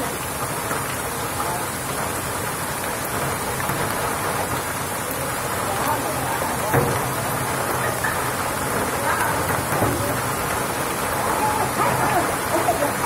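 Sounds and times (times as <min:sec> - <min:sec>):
heavy rain and hail pelting: 0:00.0 - 0:13.0.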